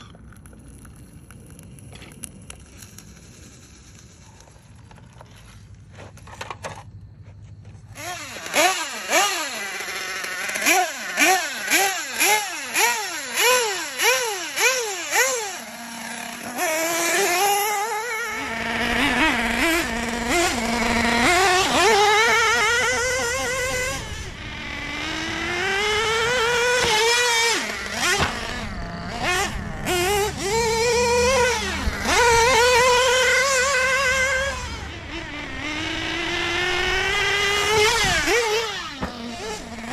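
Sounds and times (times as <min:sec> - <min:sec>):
model engine revving: 0:07.9 - 0:39.9.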